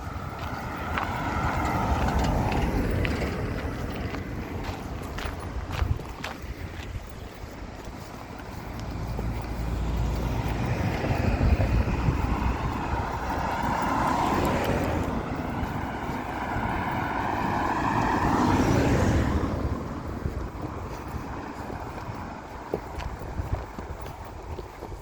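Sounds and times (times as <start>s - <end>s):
motor vehicles passing: 0.0s - 25.0s.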